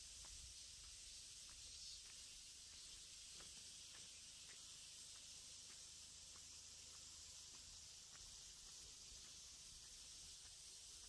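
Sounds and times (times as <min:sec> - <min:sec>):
faint high hiss: 0:00.0 - 0:11.0
soft ticks: 0:00.1 - 0:11.0.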